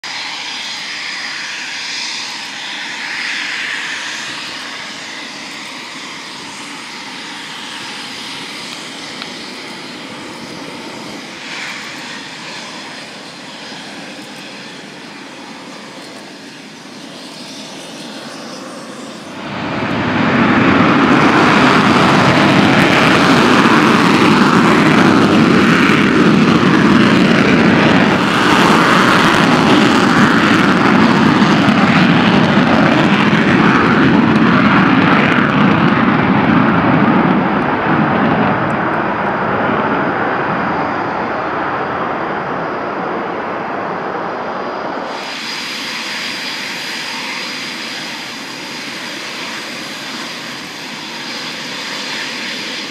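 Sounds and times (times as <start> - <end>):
deep rushing jet roar: 0.0 - 52.9
jet engines whining: 0.0 - 52.9.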